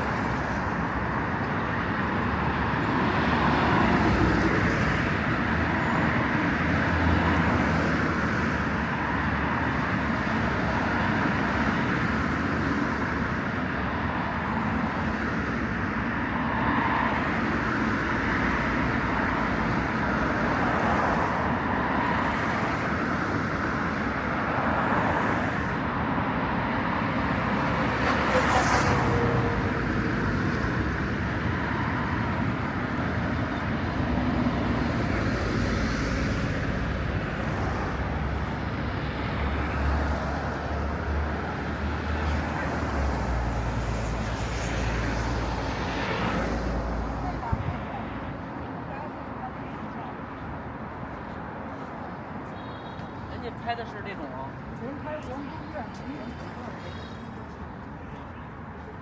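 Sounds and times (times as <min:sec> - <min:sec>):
cars passing on busy street: 0:00.0 - 0:59.0.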